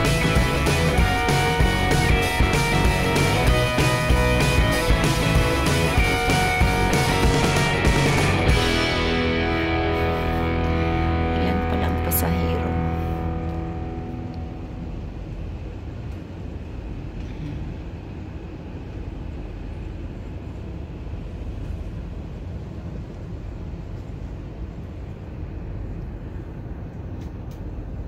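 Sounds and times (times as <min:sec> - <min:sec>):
train rumble inside carriage: 0:00.0 - 0:28.0.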